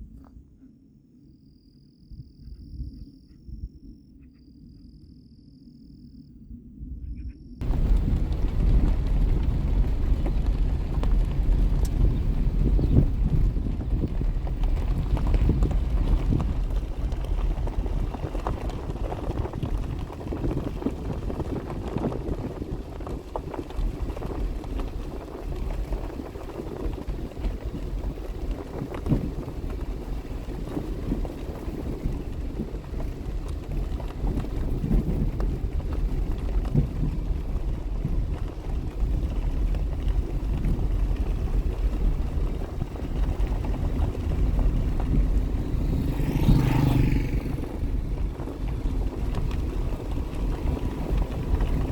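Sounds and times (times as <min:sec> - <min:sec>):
wind buffeting microphone: 0:02.0 - 0:04.2, 0:06.6 - 0:51.9.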